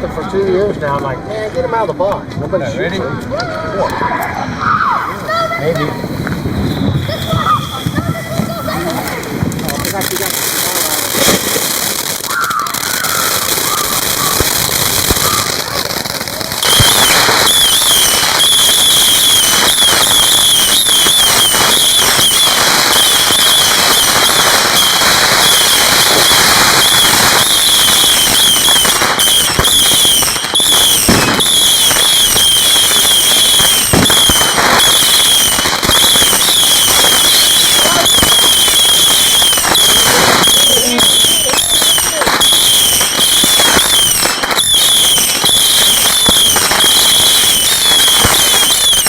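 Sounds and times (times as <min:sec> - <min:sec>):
firework crackles: 0:00.0 - 0:49.0
firework fountain hissing: 0:02.8 - 0:49.0.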